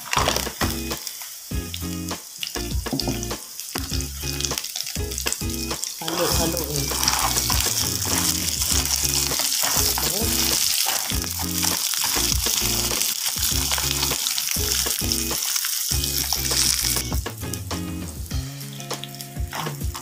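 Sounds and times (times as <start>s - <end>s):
crabs sizzling in oil: 0.0s - 17.6s, 18.2s - 20.0s.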